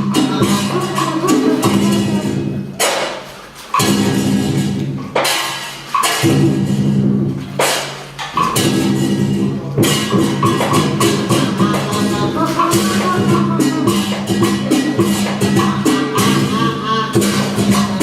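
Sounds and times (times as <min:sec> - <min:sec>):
loud ringing drum strikes: 0:00.0 - 0:18.0.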